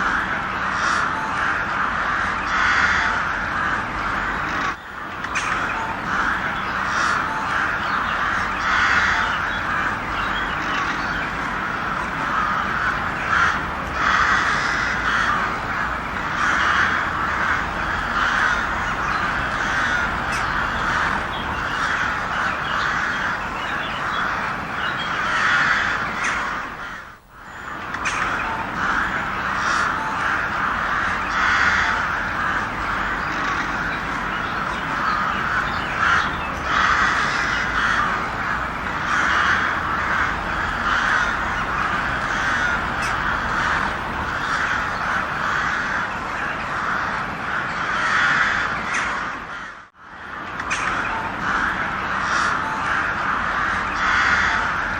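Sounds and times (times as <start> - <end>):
crows cawing: 0.0 - 54.9.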